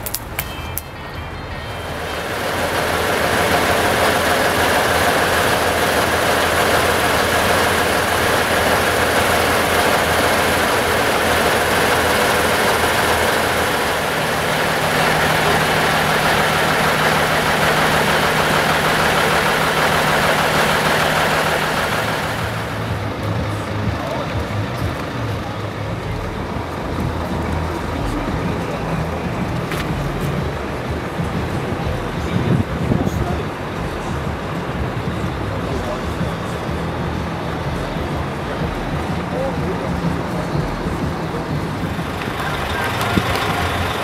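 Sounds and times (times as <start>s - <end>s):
diesel truck engine running: 0.0s - 44.0s
steady low hum: 0.0s - 44.0s.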